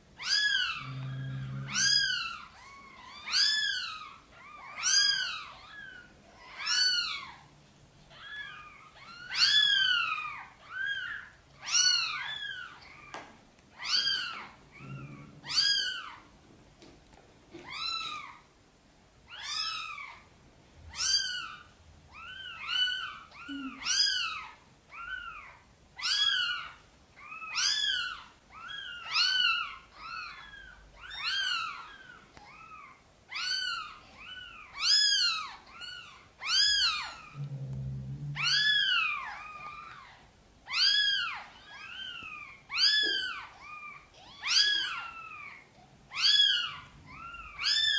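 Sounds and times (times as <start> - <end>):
kittens mewing: 0.2 - 7.5, 8.1 - 16.2, 20.9 - 37.6, 38.3 - 47.9.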